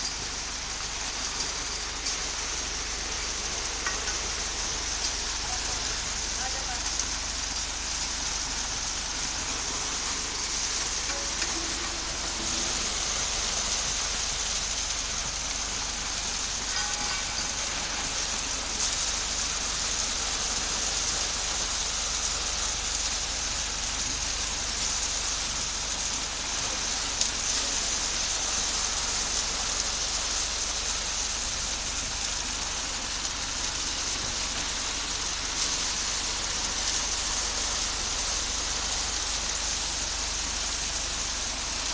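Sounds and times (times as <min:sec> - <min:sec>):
concrete mixer running: 0:00.0 - 0:41.9.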